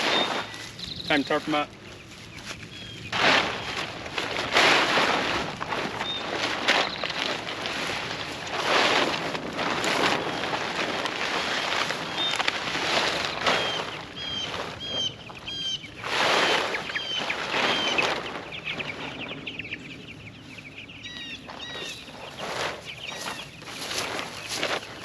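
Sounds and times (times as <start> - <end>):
tarp rustling: 0.0 - 19.2, 21.4 - 25.0
chicks peeping: 0.0 - 25.0.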